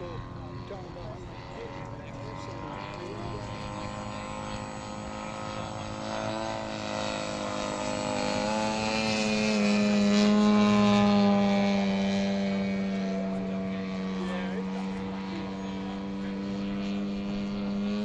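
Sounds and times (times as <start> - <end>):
model airplane engine droning: 0.0 - 18.0.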